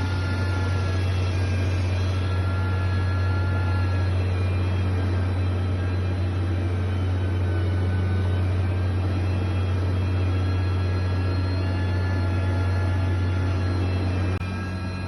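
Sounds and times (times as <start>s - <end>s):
heavy machinery diesel engine drone: 0.0s - 15.0s.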